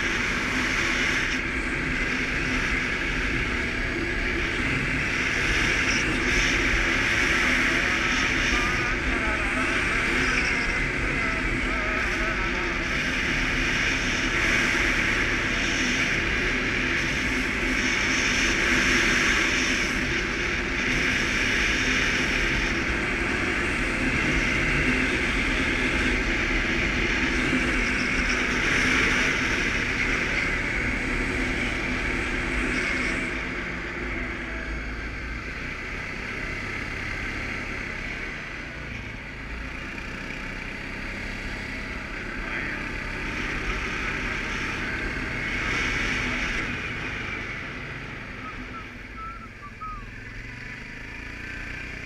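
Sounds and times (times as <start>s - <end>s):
atv engine running: 0.0s - 52.0s
road and wind noise: 0.0s - 52.0s.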